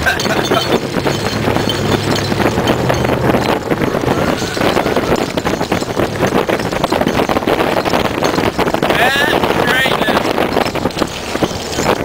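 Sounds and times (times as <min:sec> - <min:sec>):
pickup truck engine: 0:00.0 - 0:12.0
wind rushing over microphone: 0:00.0 - 0:12.0.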